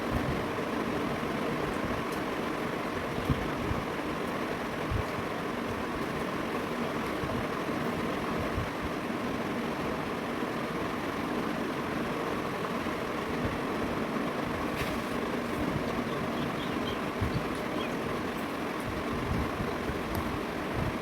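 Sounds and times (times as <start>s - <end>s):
background rumble and hiss: 0.0s - 21.0s.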